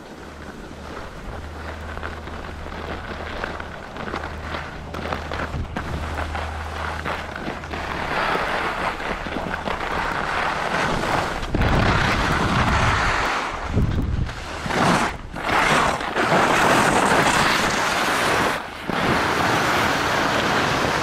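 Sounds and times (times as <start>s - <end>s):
skis scraping over snow: 0.0s - 21.0s
wind buffeting microphone: 0.0s - 21.0s.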